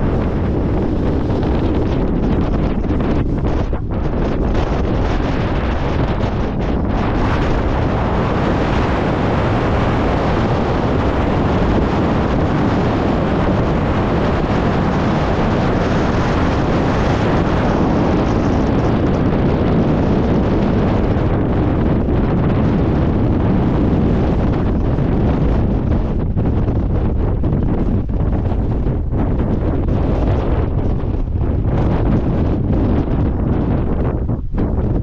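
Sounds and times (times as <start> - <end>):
wind blowing across microphone: 0.0 - 35.0.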